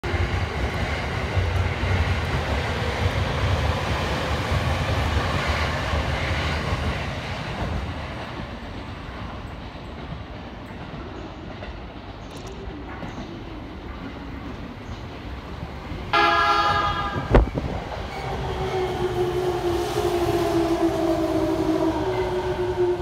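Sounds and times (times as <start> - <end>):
distant approaching train: 0.0 - 23.0.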